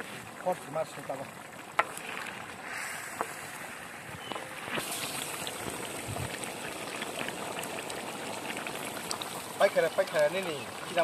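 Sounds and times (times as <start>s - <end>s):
curry simmering and bubbling: 0.0s - 11.0s.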